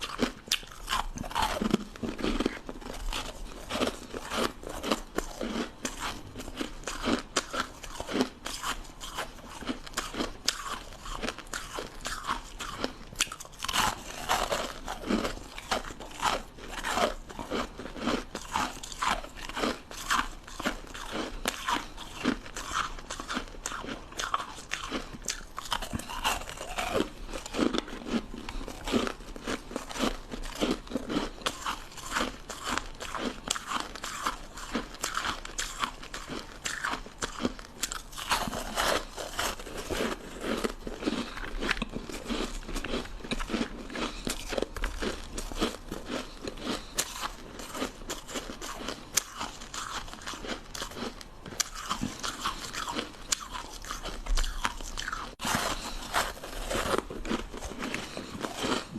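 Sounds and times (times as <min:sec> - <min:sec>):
ice crunching being chewed: 0:00.0 - 0:58.9.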